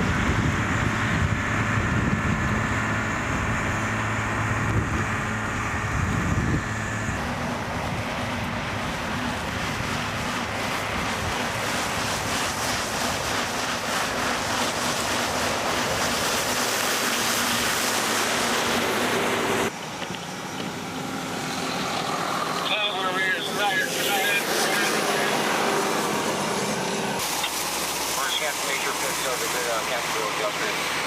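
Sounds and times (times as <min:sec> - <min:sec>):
rushing of blown snow: 0:00.0 - 0:19.8, 0:20.4 - 0:31.0
vehicle engine hum: 0:00.0 - 0:31.0.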